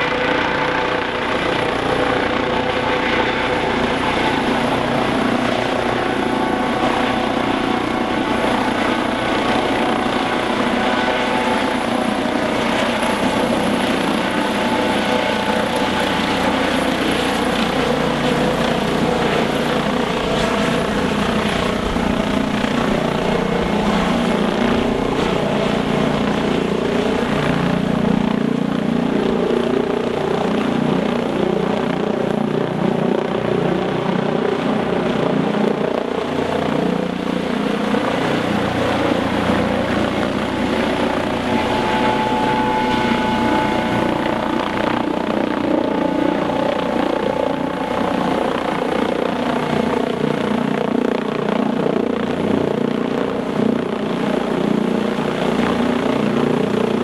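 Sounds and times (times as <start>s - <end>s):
high turbine whine: 0.0s - 54.1s
helicopter engine and rotor noise: 0.0s - 57.0s.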